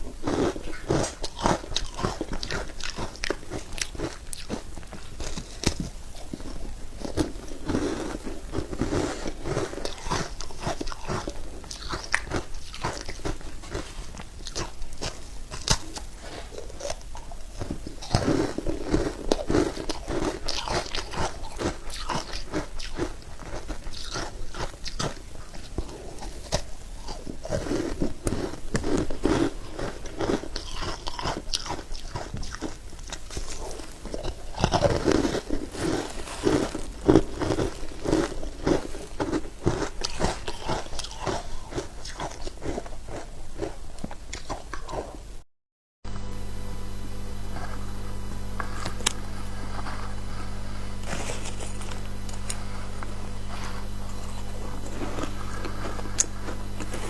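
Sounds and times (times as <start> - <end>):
dull low chewing: 0.0 - 45.4, 47.3 - 57.0
crunching ice: 0.2 - 45.0, 50.9 - 57.0.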